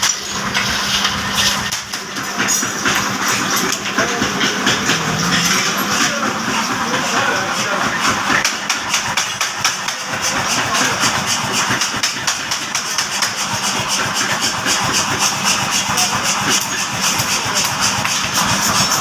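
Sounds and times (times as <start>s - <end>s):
power hammer motor humming and chuffing: 0.0s - 19.0s.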